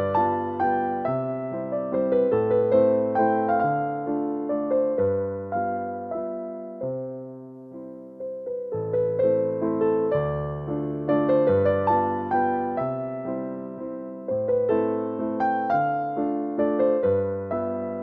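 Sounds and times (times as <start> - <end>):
gentle electric piano music: 0.0 - 18.0.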